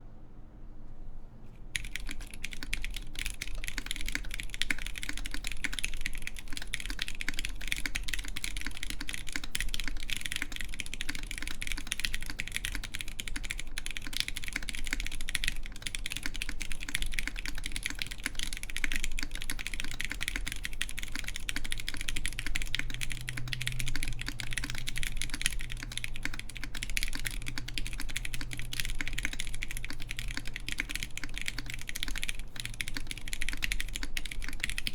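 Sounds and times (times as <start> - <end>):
mechanical keyboard typing: 1.8 - 34.9.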